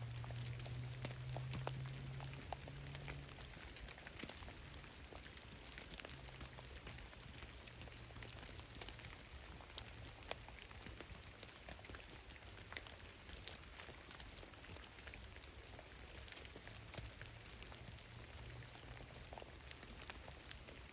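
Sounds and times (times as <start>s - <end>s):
water dripping from melting snow: 0.0s - 20.9s.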